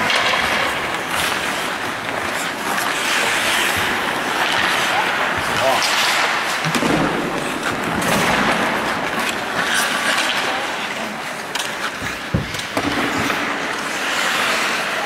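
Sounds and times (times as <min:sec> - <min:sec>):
skate blades scraping ice: 0:00.0 - 0:15.0
sticks clicking on puck: 0:00.0 - 0:15.0.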